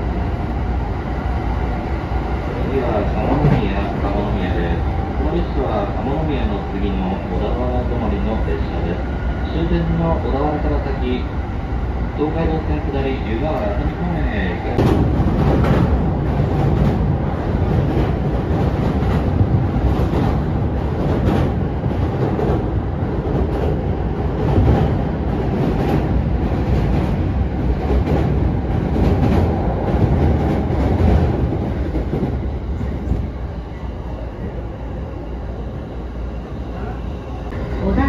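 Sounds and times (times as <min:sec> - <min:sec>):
train rumble with clickety-clack: 0:00.0 - 0:38.0.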